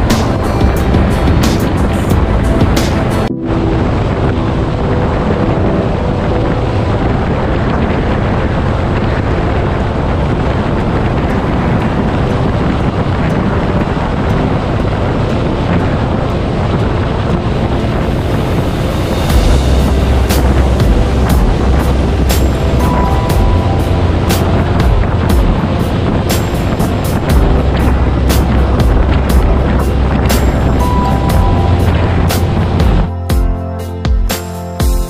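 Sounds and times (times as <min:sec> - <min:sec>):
road noise: 0:00.0 - 0:33.2
wind rushing over microphone: 0:00.0 - 0:33.3.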